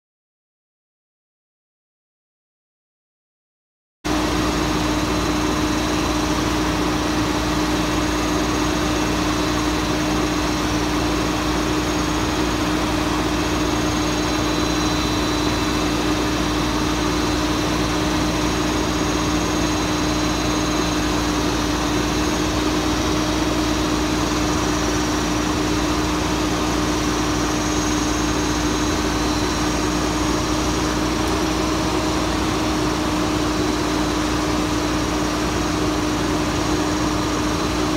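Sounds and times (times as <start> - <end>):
diesel truck engine idling: 4.2 - 37.9.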